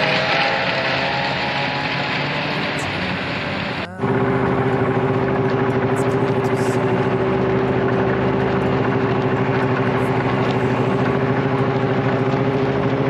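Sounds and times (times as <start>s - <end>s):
snowmobile engine droning: 0.0s - 13.0s.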